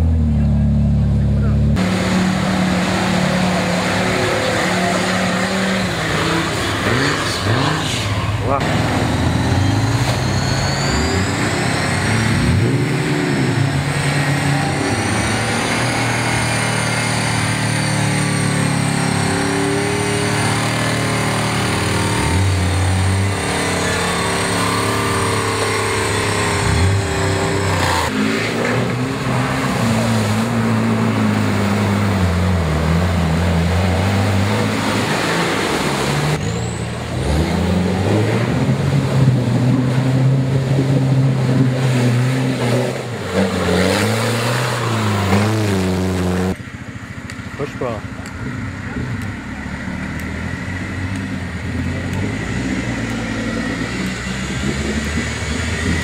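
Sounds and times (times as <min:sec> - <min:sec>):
off-road engines revving hard: 0:00.0 - 0:56.0.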